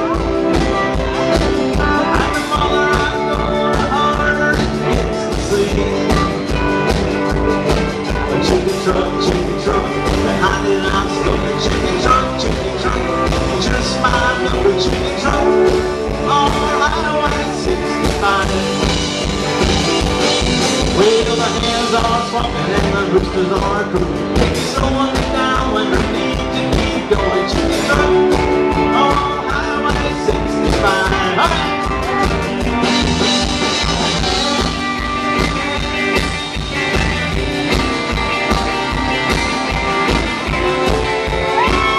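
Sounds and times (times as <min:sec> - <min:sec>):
guitars playing: 0:00.0 - 0:41.9
steady drum beat: 0:00.0 - 0:41.9.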